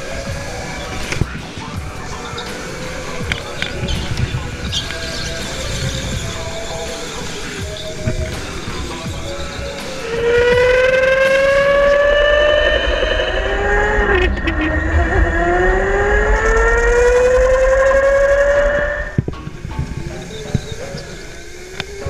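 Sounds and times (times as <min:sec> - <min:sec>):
go-kart motor whining: 0:00.0 - 0:22.0.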